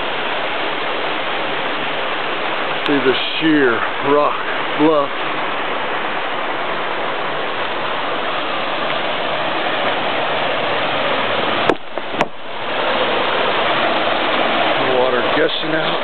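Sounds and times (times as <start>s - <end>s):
creek water rushing and splashing: 0.0s - 16.0s.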